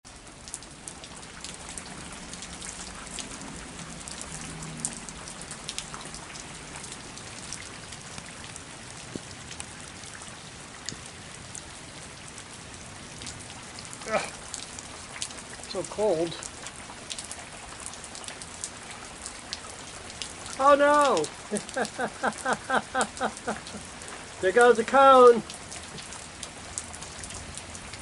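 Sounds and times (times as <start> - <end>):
heavy rain falling: 0.1 - 28.0.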